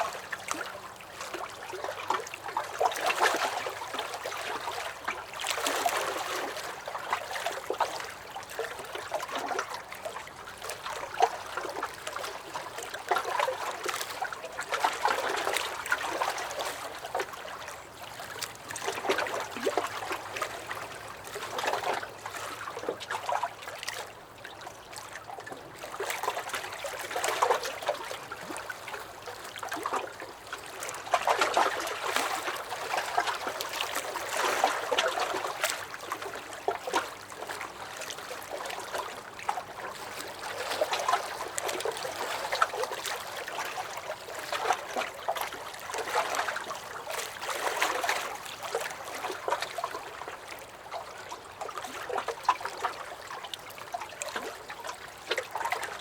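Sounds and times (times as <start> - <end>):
waves lapping against a dock: 0.0 - 56.0.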